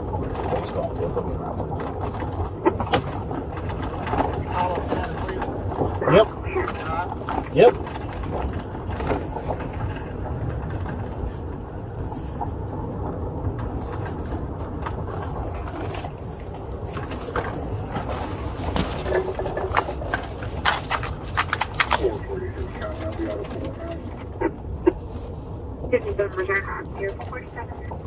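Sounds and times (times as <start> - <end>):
clicks and rustles: 0.0 - 28.0
truck engine rumble: 0.0 - 28.0.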